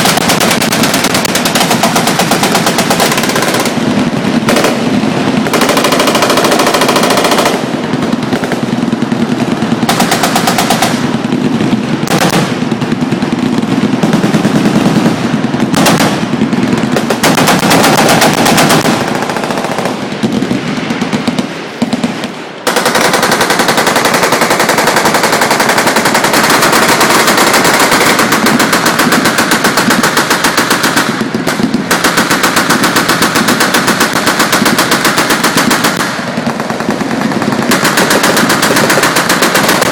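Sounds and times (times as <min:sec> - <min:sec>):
machine guns firing: 0:00.0 - 0:39.9.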